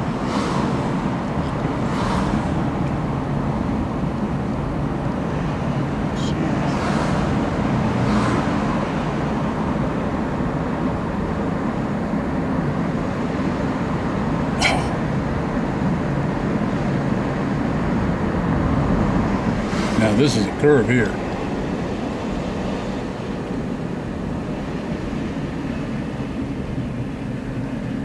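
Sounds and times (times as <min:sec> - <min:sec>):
cars swishing past: 0:00.0 - 0:12.0, 0:16.0 - 0:27.0
road and engine rumble in car: 0:00.0 - 0:28.0.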